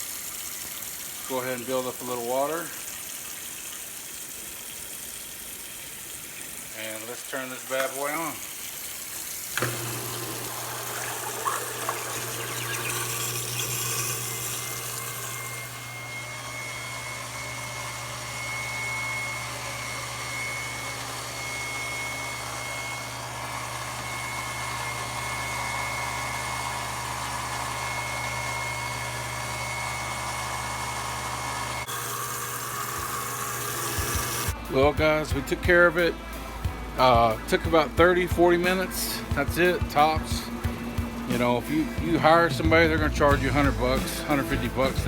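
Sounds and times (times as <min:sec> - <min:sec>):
garbage disposal humming: 0:00.0 - 0:45.0
water running: 0:00.0 - 0:45.0.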